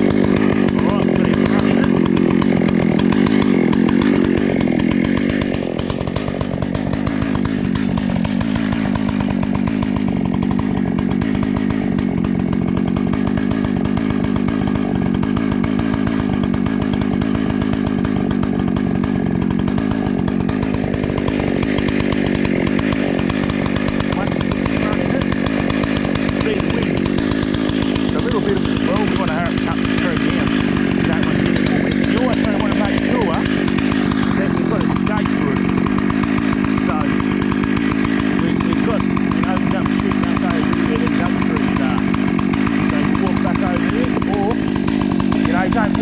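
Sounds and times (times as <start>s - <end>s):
chainsaw cutting tree trunk: 0.0s - 46.0s.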